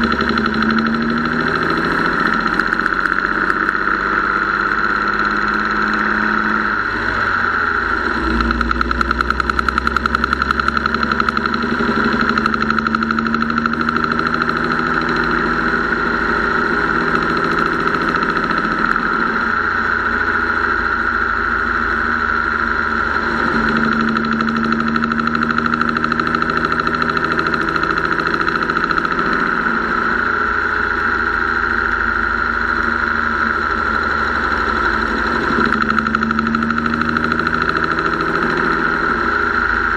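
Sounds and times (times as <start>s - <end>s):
engine running with rapid ticking: 0.0s - 39.9s.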